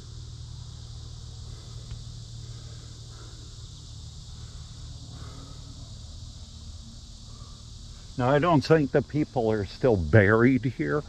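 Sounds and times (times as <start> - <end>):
insect chorus buzzing: 0.0 - 11.0
low hum: 0.0 - 11.0.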